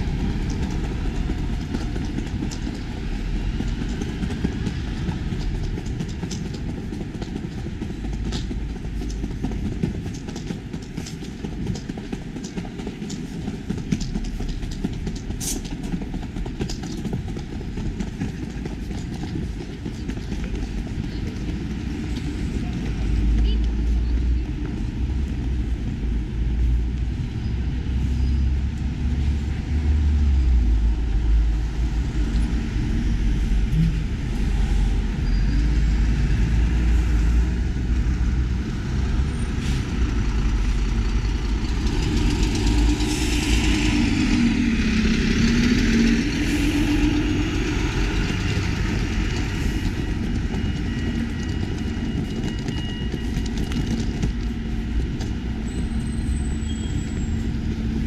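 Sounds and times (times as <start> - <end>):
city street traffic: 0.0 - 58.0
diesel buses passing: 0.0 - 58.0
tyre noise: 0.0 - 58.0.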